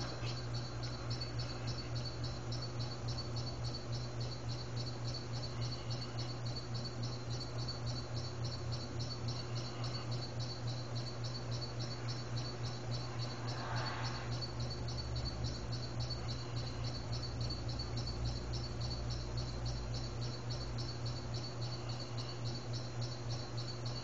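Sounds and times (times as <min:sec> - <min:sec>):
insects chirping: 0:00.0 - 0:24.0
low hum: 0:00.0 - 0:24.0.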